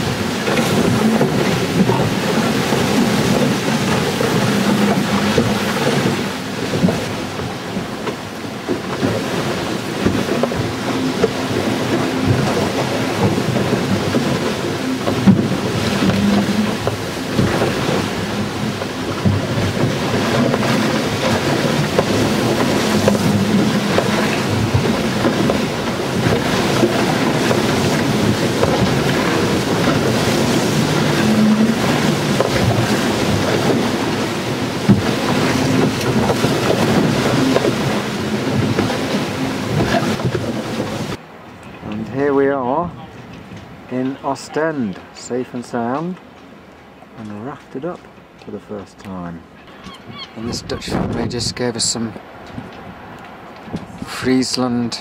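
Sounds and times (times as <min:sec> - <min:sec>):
waves knocking on hull: 0:00.0 - 0:55.0
wind and water rushing on hull: 0:00.0 - 0:55.0.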